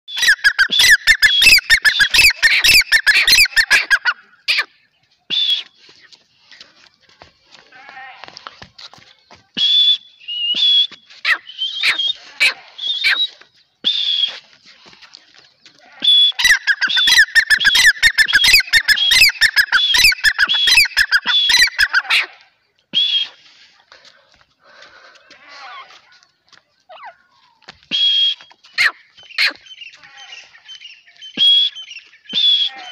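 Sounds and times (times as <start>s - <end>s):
bird calling sharp calls: 0.1s - 6.2s, 8.8s - 23.6s, 26.8s - 32.9s.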